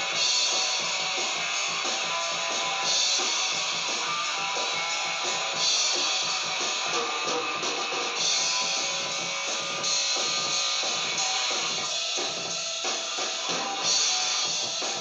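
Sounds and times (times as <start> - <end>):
drum kit: 0.0 - 15.0
electric guitar playing rock: 0.0 - 15.0.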